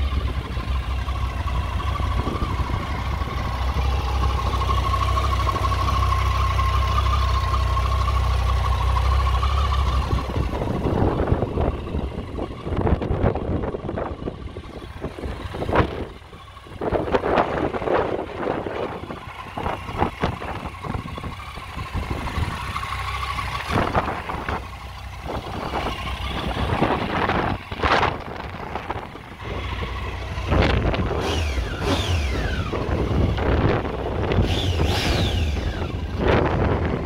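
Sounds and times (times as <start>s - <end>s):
vehicle noise: 0.0s - 37.0s.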